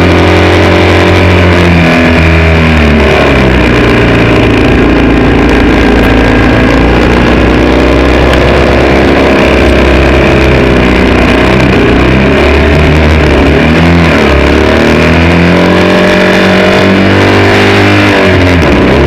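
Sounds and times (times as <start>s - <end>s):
racing motorcycle engine accelerating: 0.0s - 19.0s
wind noise: 0.0s - 19.0s.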